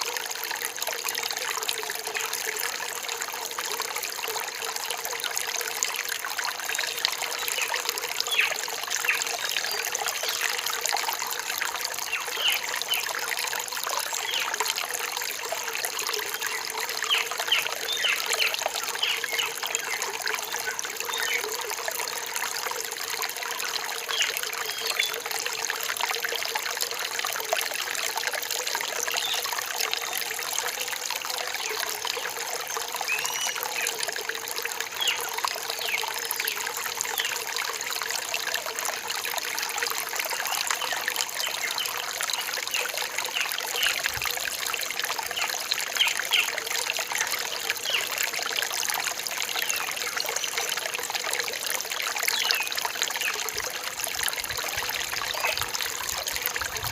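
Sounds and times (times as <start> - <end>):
stream trickling: 0.0 - 56.9.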